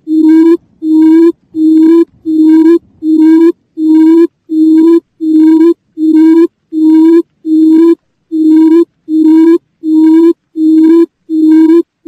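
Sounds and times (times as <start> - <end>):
quail call hooting notes: 0.0 - 12.0.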